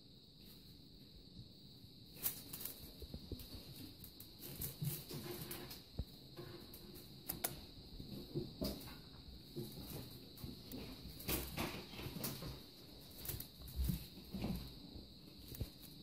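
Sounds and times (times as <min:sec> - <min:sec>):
kittens scrambling and pawing: 0:02.1 - 0:16.0.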